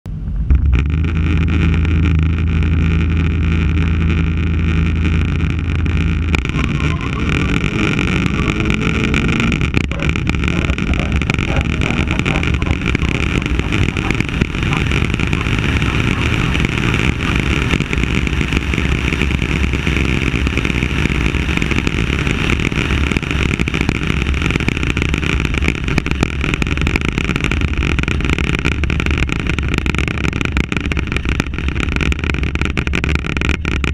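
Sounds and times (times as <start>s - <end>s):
car engine idling and accelerating: 0.1s - 33.9s
wind noise: 0.1s - 33.9s.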